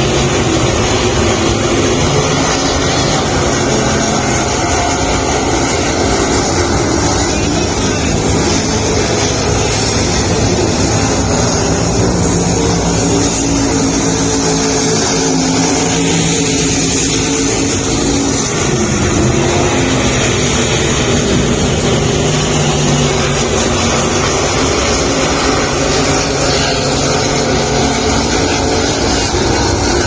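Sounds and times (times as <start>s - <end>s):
race car engines running: 0.0s - 30.0s.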